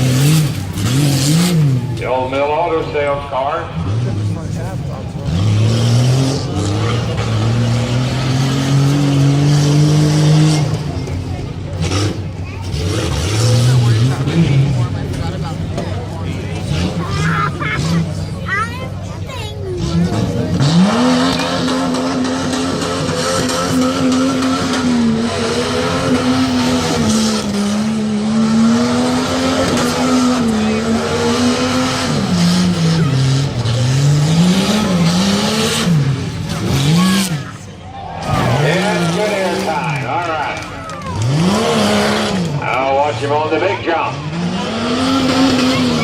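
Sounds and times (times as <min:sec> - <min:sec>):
truck engine at full throttle: 0:00.0 - 0:46.0.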